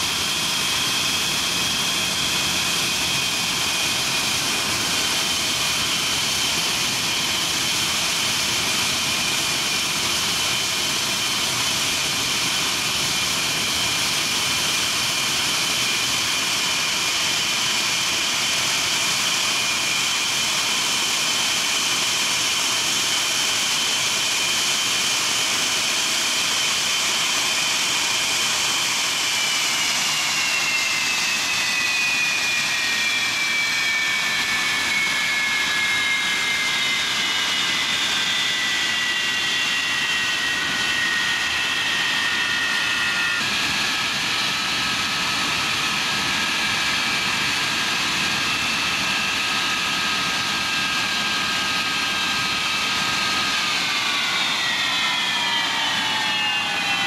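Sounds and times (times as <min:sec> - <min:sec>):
jet engines running with whine: 0:00.0 - 0:57.0.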